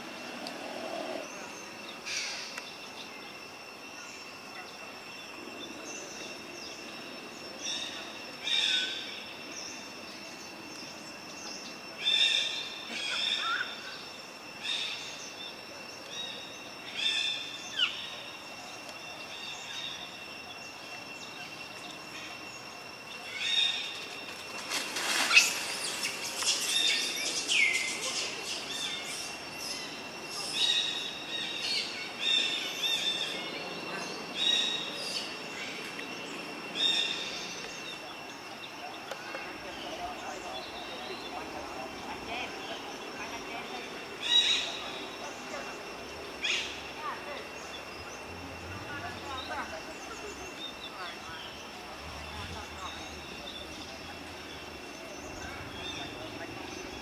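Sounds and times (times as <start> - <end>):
forest birds calling: 0.0 - 57.0
high-pitched insect drone: 0.0 - 57.0.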